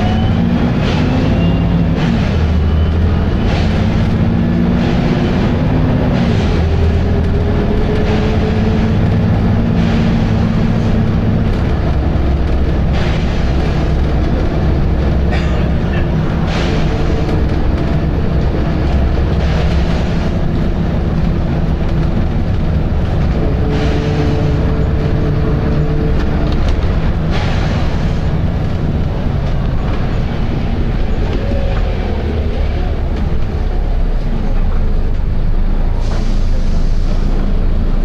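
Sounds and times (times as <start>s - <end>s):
bus diesel engine rumble: 0.0s - 38.0s.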